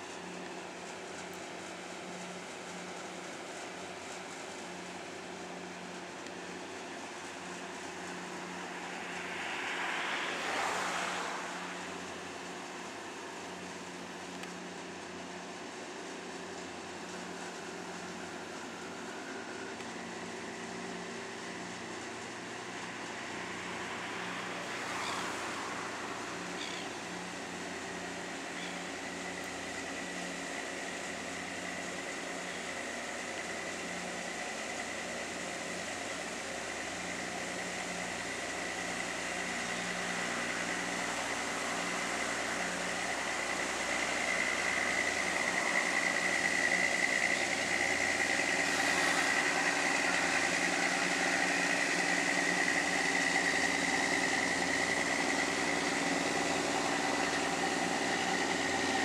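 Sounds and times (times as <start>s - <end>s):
boat engine droning with whine: 0.0s - 59.0s.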